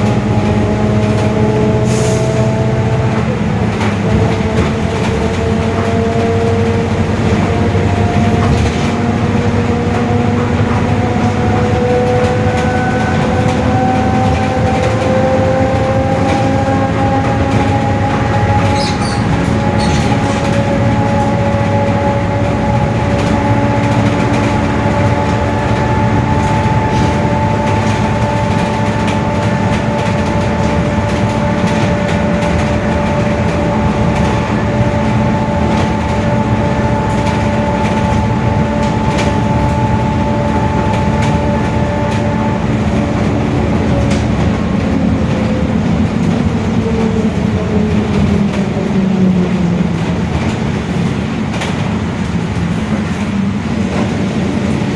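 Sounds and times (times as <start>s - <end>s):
bus differential whining: 0.0s - 54.9s
engine and road rumble: 0.0s - 54.9s.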